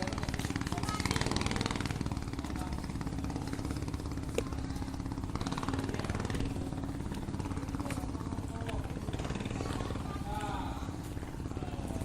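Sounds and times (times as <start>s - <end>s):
engine low rumble pulsing: 0.0s - 12.0s.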